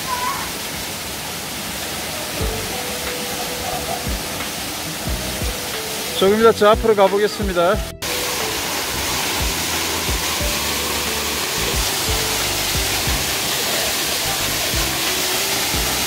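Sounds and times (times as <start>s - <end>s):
waterfall rushing onto rock: 0.0s - 16.0s
soft background music: 2.3s - 16.0s.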